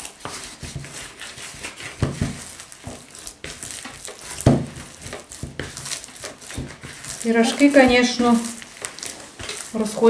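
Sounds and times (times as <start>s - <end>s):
dough squelching and slapping: 0.0s - 10.0s
dough thumps: 0.0s - 10.0s.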